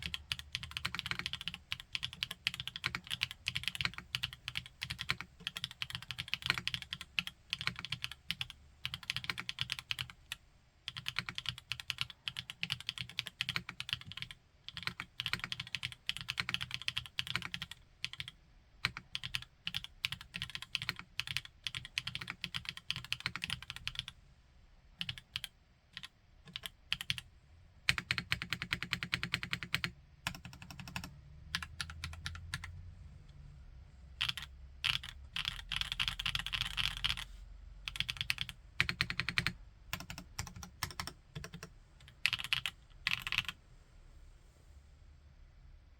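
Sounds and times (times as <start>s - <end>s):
typing on mechanical keyboard: 0.0s - 10.3s, 10.9s - 24.1s, 25.0s - 27.2s, 27.9s - 32.7s, 34.2s - 37.2s, 37.9s - 43.5s.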